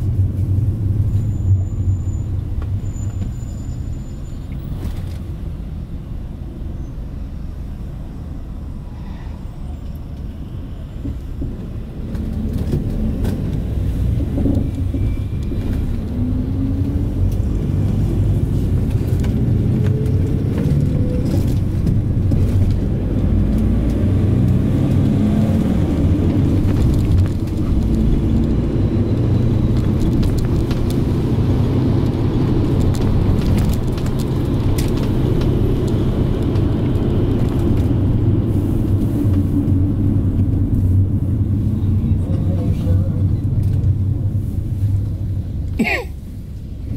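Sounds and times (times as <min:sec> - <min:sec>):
minibus engine: 0:00.0 - 0:46.9
road noise: 0:00.0 - 0:46.9.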